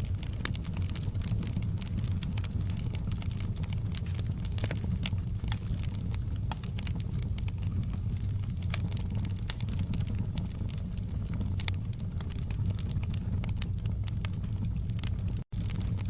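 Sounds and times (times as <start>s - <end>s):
low rumble of burning flames: 0.0s - 16.0s
wood fire crackling and popping: 0.0s - 16.0s.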